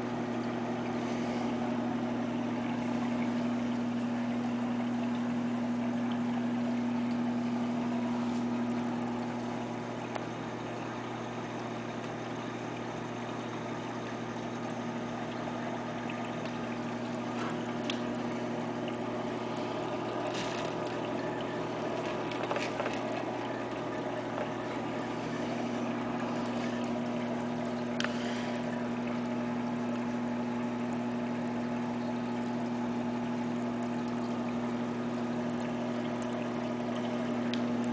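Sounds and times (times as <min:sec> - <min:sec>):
aquarium pump hum: 0:00.0 - 0:37.9
water pouring and trickling: 0:00.0 - 0:37.9.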